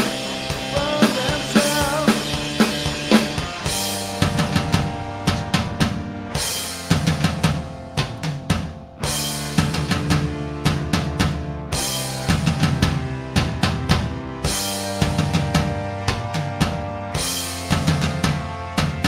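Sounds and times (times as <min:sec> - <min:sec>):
bass guitar riff: 0:00.0 - 0:19.0
drum kit playing: 0:00.0 - 0:19.0.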